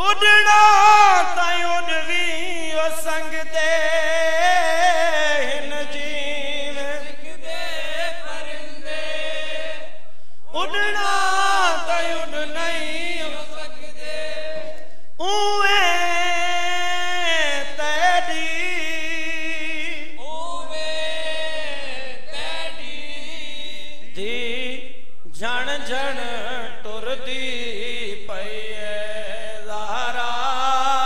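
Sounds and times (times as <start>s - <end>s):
man chanting a lament: 0.0s - 31.0s.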